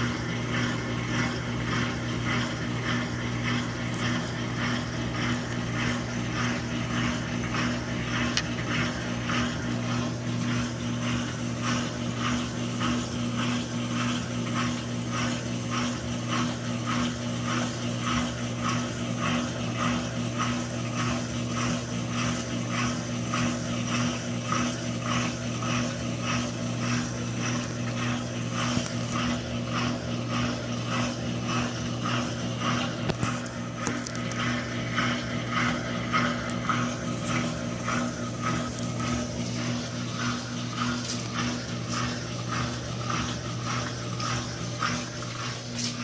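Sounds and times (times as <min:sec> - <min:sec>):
agitator churning: 0:00.0 - 0:46.0
washing machine motor humming: 0:00.0 - 0:46.0.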